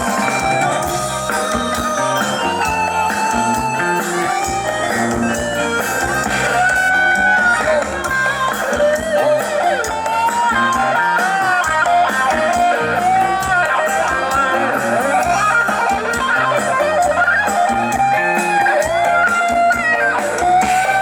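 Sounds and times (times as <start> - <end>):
guitar-led band music: 0.0 - 21.0.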